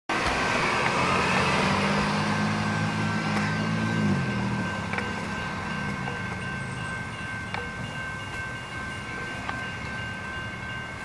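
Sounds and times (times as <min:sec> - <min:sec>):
bus engine running: 0:00.1 - 0:11.0
railroad crossing bell ringing: 0:00.1 - 0:11.0
street traffic: 0:00.1 - 0:11.0.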